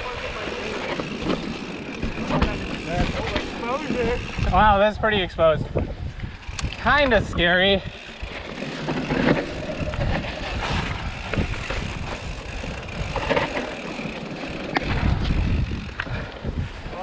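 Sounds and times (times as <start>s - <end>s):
bike rattling: 0.0s - 17.0s.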